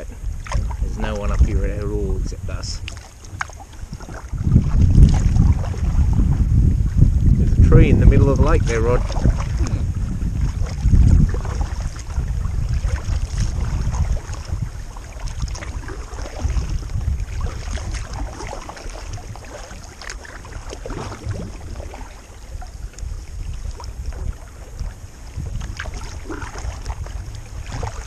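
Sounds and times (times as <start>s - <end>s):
paddle strokes splashing: 0.0s - 28.0s
water lapping at kayak hull: 0.0s - 28.0s
wind buffeting microphone: 0.0s - 28.0s.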